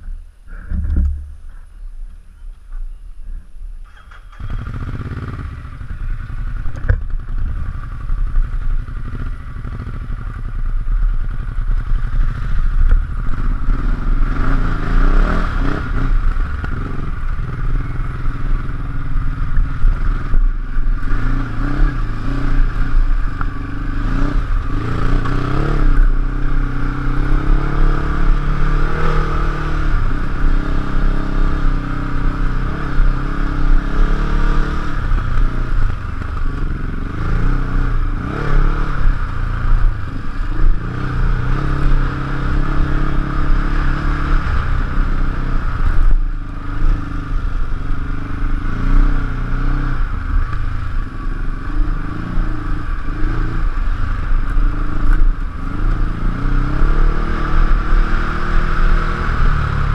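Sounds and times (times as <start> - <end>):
motorcycle engine revving: 0.0 - 2.5, 3.2 - 59.9.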